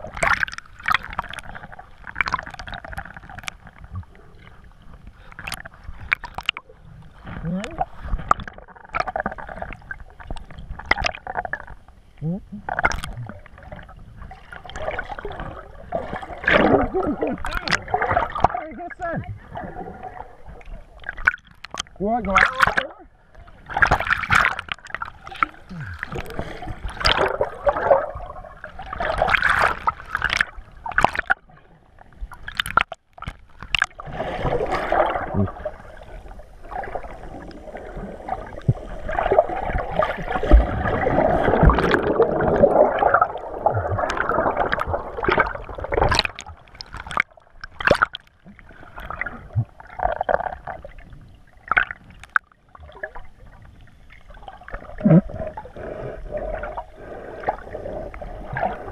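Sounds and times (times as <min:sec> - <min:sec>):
muffled water gurgling: 0:00.0 - 0:58.9
water splashes: 0:00.0 - 0:58.9.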